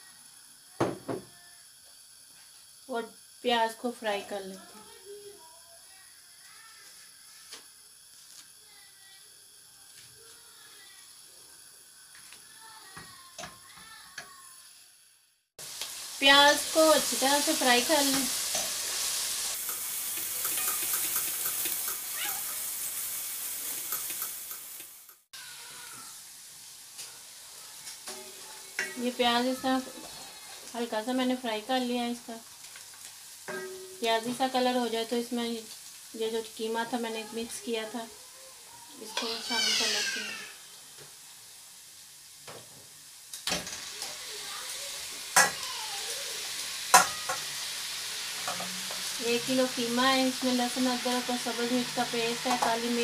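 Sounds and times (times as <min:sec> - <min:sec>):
onions sizzling in hot oil: 0:00.0 - 0:53.0.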